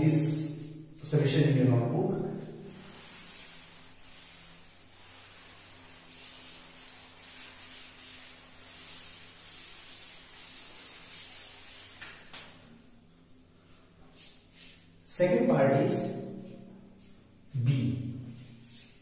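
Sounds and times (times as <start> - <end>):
cloth wiping chalkboard: 1.3 - 12.9, 13.6 - 19.0.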